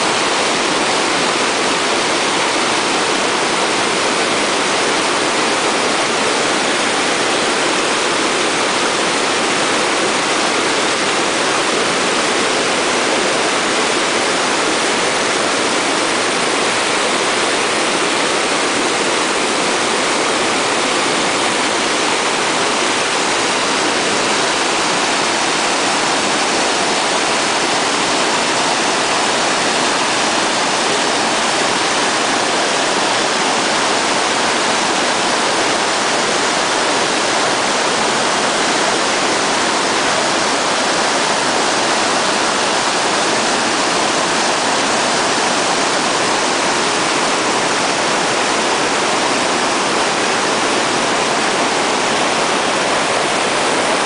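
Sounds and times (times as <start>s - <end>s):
stream rushing over boulders: 0.0s - 54.0s.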